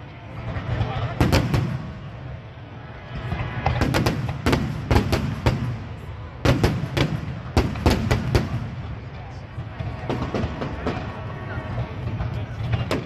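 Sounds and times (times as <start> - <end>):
fireworks bangs: 0.4 - 2.4, 3.0 - 13.0.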